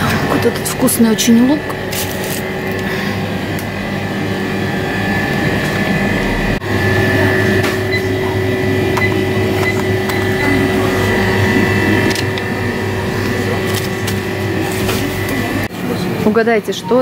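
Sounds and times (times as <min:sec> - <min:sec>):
machine hum with held tones: 0:00.0 - 0:16.1.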